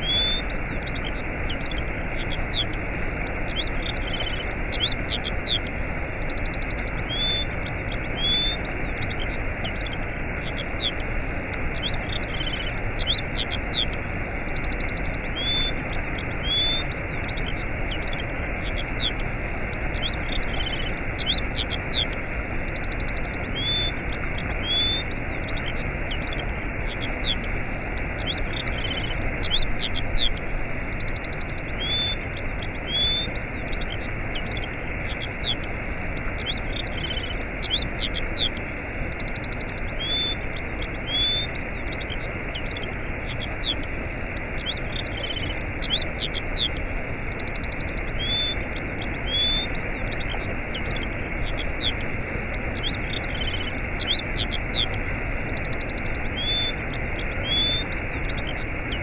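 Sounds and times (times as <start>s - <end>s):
small birds chirping and trilling: 0.0s - 59.0s
waterfall rushing: 0.0s - 59.0s.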